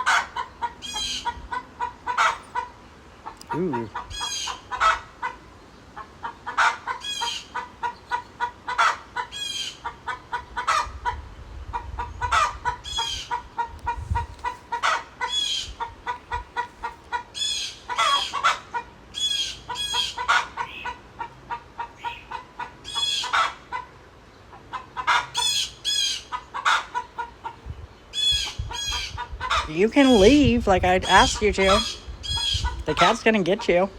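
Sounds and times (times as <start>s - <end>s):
chickens clucking and squawking: 0.0s - 33.9s.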